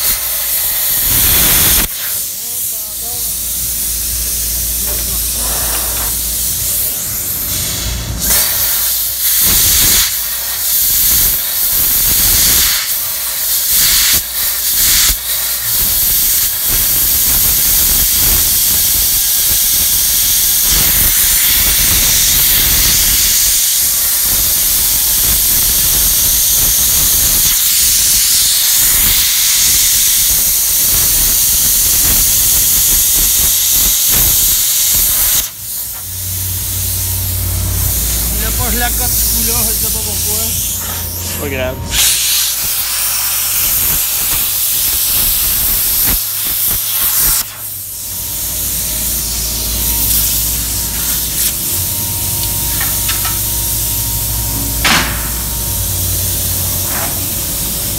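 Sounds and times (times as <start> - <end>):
electric arc welding hiss: 0.0 - 57.9.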